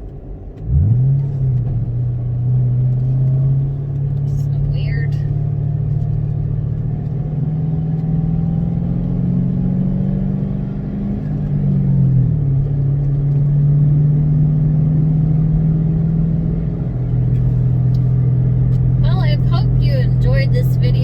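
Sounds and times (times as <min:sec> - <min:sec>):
car engine driving: 0:00.0 - 0:21.0.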